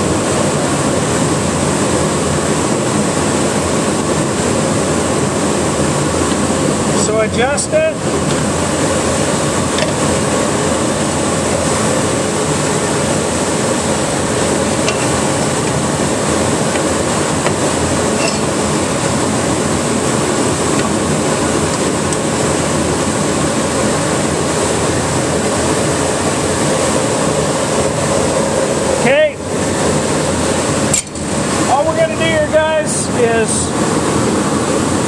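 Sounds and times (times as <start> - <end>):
dust collector running: 0.0 - 35.0.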